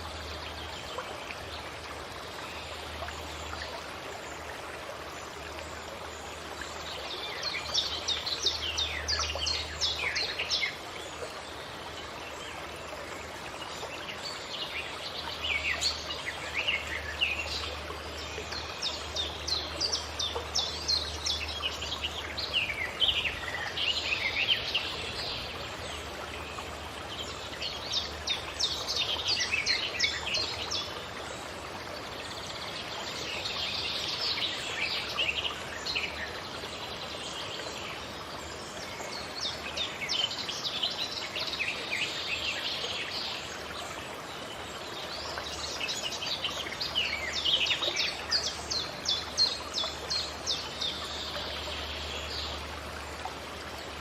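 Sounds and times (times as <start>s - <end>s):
wild birds chirping and trilling: 0.0s - 54.0s.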